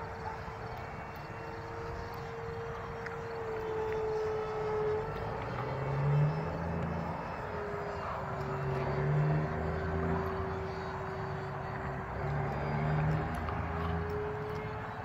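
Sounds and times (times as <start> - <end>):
model plane motor whine: 0.1 - 15.0.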